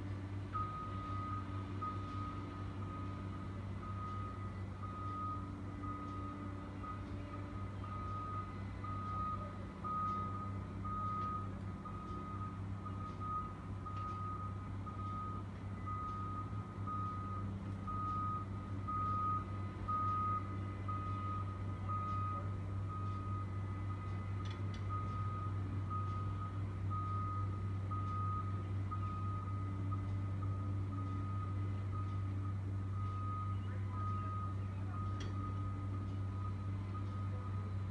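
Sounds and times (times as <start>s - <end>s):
excavator diesel engine drone: 0.0s - 37.9s
backup alarm beeping: 0.6s - 37.9s.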